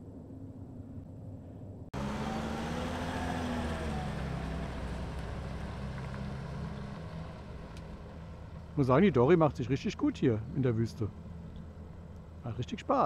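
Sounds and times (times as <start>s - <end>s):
diesel engine driving over gravel: 2.0s - 13.0s.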